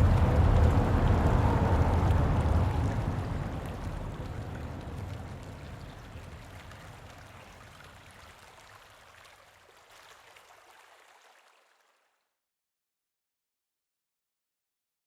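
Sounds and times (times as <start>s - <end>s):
running water: 0.0s - 12.1s.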